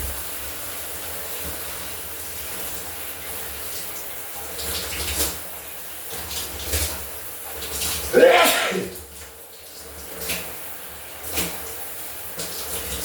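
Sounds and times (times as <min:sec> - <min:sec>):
shower water running: 0:00.0 - 0:13.0.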